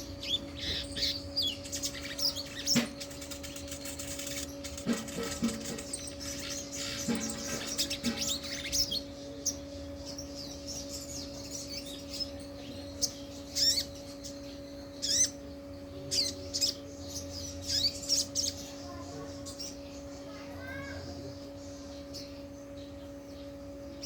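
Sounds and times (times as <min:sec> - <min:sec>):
bird chirping and trilling: 0:00.0 - 0:24.0
low electrical hum: 0:00.0 - 0:24.0.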